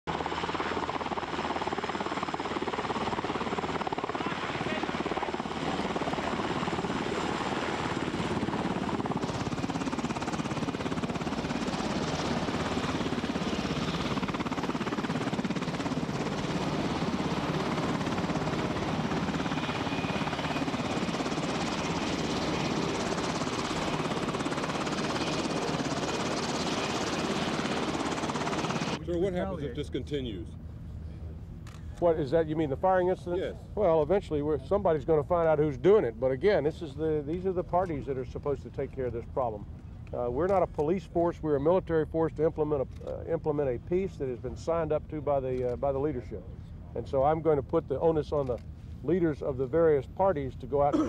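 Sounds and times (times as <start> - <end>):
helicopter engine and rotor: 0.1 - 29.9, 30.6 - 51.0.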